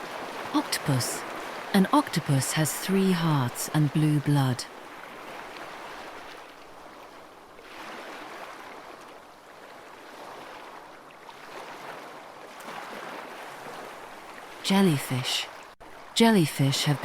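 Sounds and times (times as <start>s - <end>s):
ocean waves washing: 0.0s - 17.0s.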